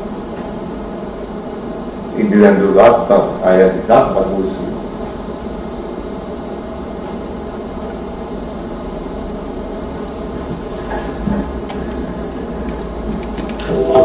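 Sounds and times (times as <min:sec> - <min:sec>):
steady rumbling room noise: 0:00.0 - 0:14.0.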